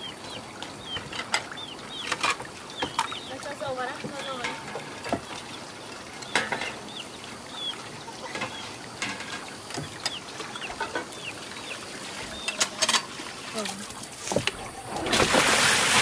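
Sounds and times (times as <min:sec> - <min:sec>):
chickens peeping and clucking: 0:00.0 - 0:15.4.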